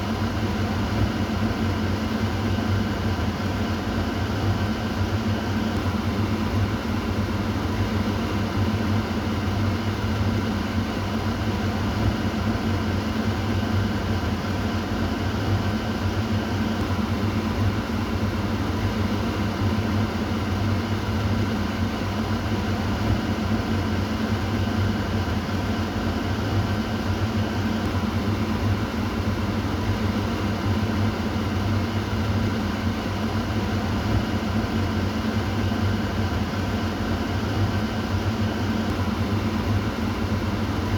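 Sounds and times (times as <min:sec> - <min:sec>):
exhaust fan humming: 0:00.0 - 0:40.9.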